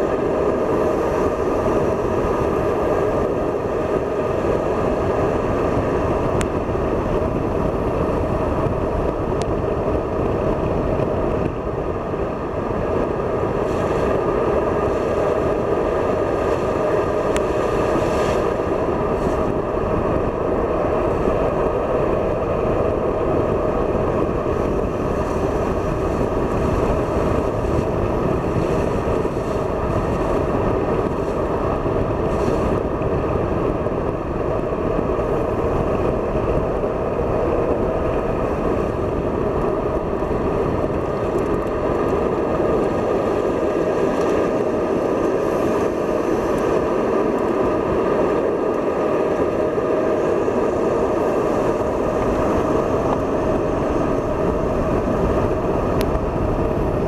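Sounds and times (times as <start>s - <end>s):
car driving at speed: 0.0s - 57.0s.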